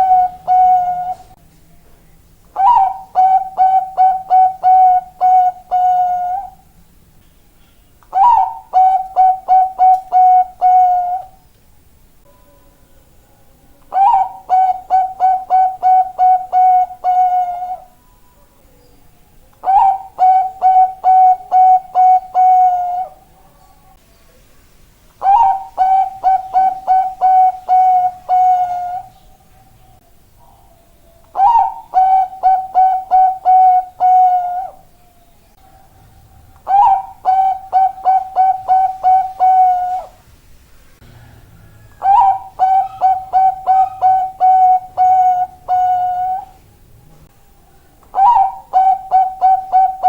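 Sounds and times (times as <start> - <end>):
dove cooing song: 0.0 - 1.4, 2.6 - 6.7, 8.1 - 11.4, 13.7 - 18.8, 19.4 - 24.0, 25.2 - 40.2, 41.0 - 46.8, 47.7 - 50.0.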